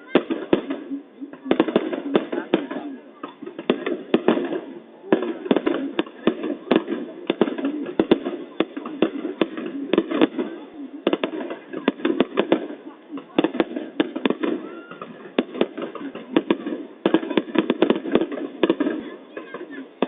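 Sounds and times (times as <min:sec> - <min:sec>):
crowd murmuring: 0:00.0 - 0:20.0
fireworks banging: 0:00.0 - 0:20.0.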